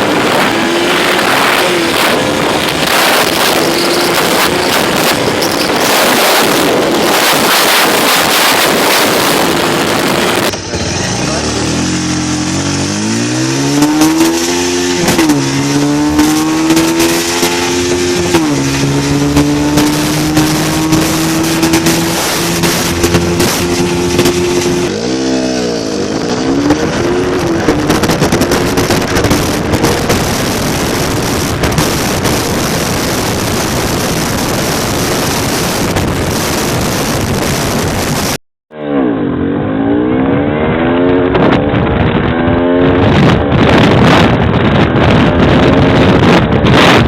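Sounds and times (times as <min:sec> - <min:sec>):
loud rushing noise: 0:00.0 - 0:47.0
motorcycle engine accelerating: 0:00.0 - 0:47.0.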